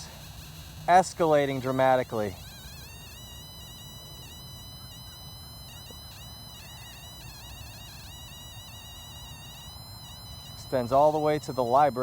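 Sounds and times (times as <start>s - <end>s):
high-pitched electronic buzz: 0.0s - 12.0s.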